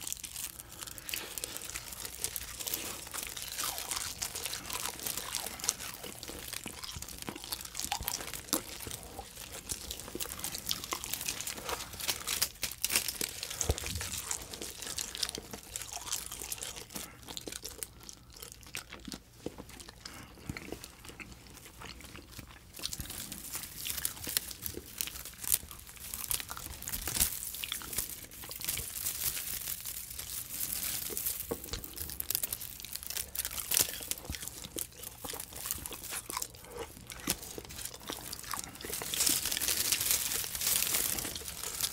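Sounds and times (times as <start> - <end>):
chewing and crinkling: 0.0 - 41.9.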